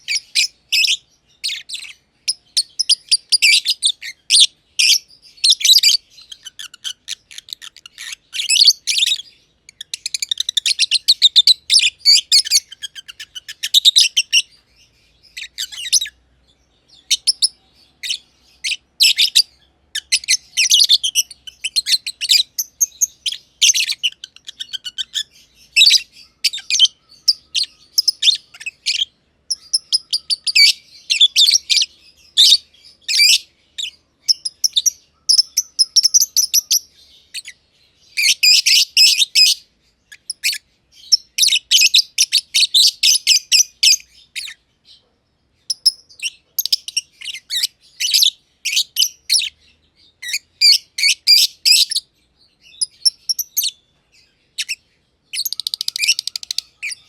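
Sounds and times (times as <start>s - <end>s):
lovebirds chirping shrilly: 0.0s - 45.0s, 45.6s - 57.0s.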